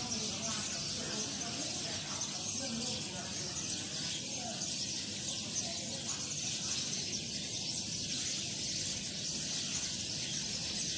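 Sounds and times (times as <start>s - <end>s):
flock of birds chirping: 0.0s - 10.9s.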